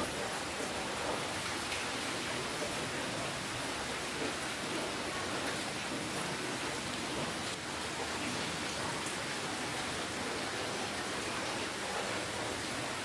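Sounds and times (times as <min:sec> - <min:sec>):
rainfall: 0:00.0 - 0:13.0.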